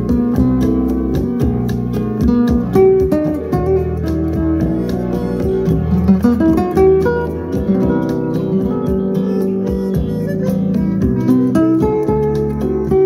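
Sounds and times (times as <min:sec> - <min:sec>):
music through speakers: 0:00.0 - 0:13.0.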